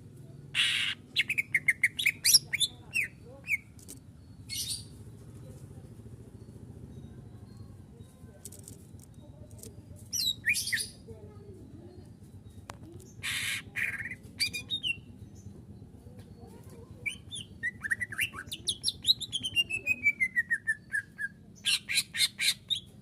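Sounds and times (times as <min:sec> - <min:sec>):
bird singing: 0:00.1 - 0:05.2, 0:05.8 - 0:23.0.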